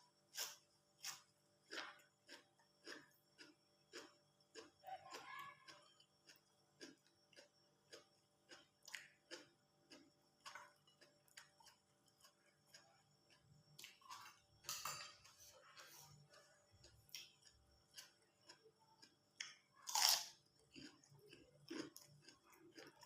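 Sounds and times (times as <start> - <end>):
crunch: 0.1 - 23.0
close-up chewing: 0.4 - 14.4, 15.3 - 23.0.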